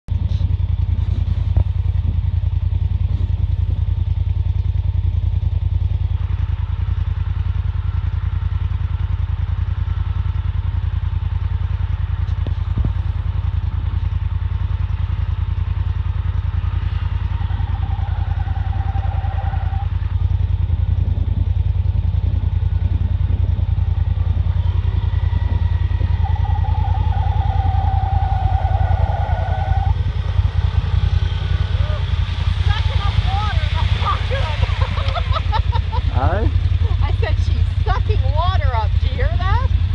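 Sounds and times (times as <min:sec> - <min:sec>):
high engine whine: 0:00.1 - 0:39.9
low engine drone: 0:00.1 - 0:39.9.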